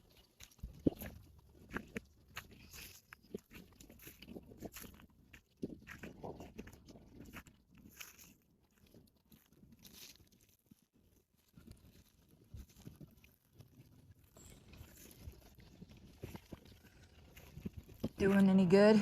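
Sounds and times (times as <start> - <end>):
faint rustles and clicks: 0.0 - 19.0.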